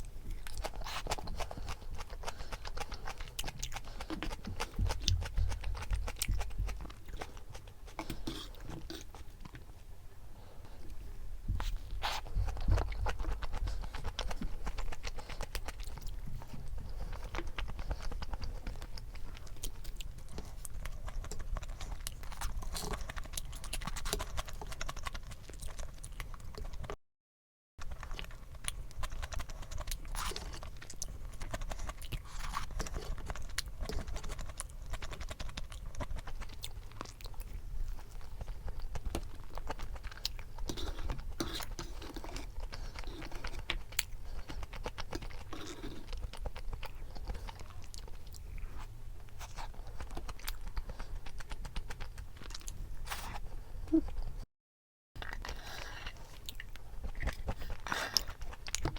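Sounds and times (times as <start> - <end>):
crunchy chewing: 0.0 - 9.7, 11.6 - 27.0, 27.8 - 54.4, 55.2 - 58.9.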